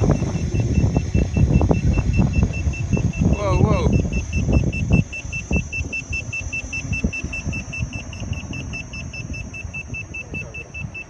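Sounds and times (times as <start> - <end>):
rapid short high beeps: 0.0 - 11.0
wind rumble on microphone: 0.0 - 11.0.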